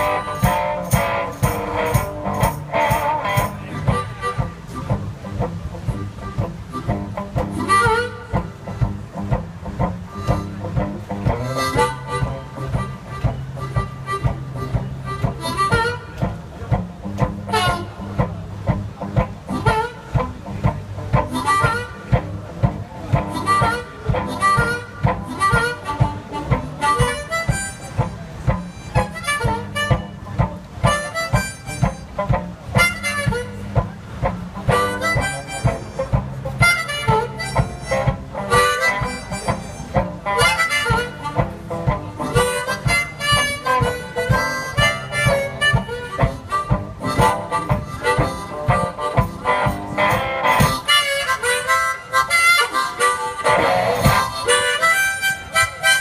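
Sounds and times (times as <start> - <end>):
harmonica solo: 0.0 - 5.2, 5.8 - 9.3, 10.0 - 16.7, 17.4 - 18.2, 19.4 - 56.0
steady drum beat: 0.0 - 56.0.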